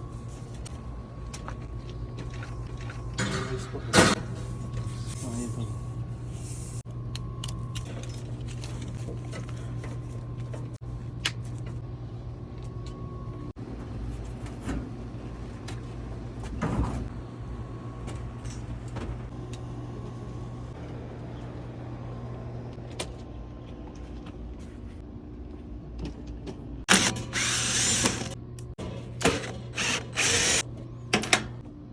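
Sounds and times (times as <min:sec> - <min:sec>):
low machine hum: 0:00.0 - 0:31.9.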